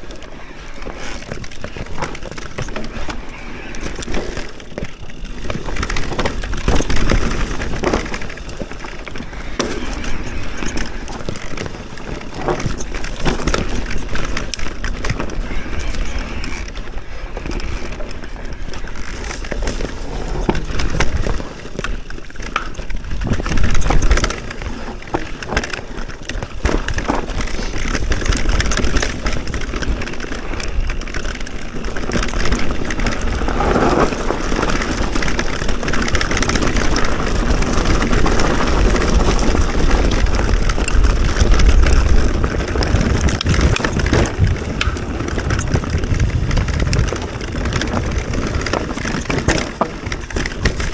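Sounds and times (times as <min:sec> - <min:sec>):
bike knocks and rattles: 0:00.0 - 0:50.9
bike tyres crunching over rocks: 0:00.0 - 0:50.9.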